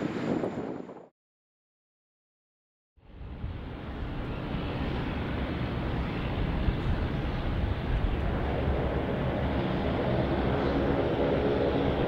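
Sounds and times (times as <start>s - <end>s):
jet engines low rumble: 0.0s - 1.1s, 3.0s - 12.0s.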